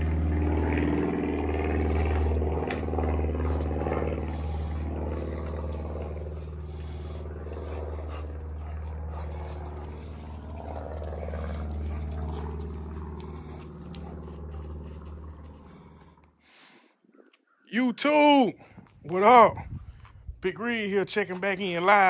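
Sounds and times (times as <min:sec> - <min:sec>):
low engine drone: 0:00.0 - 0:17.7.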